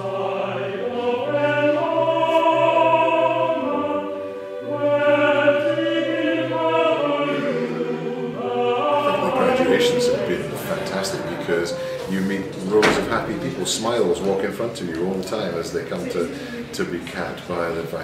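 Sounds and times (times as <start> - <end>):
choir singing held chords: 0.0 - 17.1.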